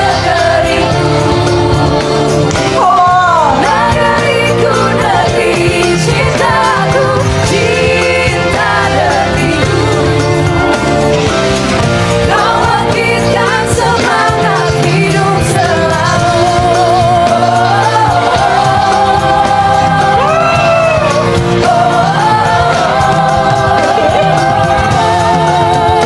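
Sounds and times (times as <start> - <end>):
band accompaniment: 0.0 - 26.0
women singing in harmony: 0.0 - 26.0.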